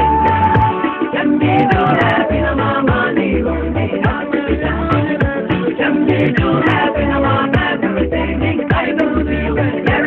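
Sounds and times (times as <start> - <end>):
music with bass and drums: 0.0 - 10.0.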